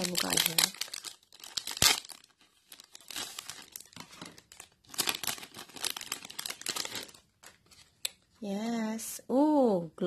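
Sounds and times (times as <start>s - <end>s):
plastic sleeve crinkling: 0.0s - 8.3s.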